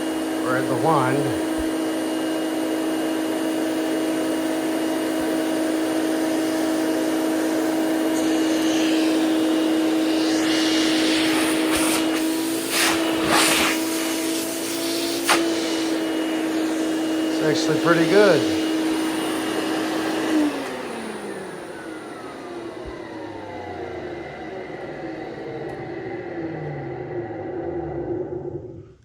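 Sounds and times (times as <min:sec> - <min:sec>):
vacuum cleaner motor whine: 0:00.0 - 0:29.0.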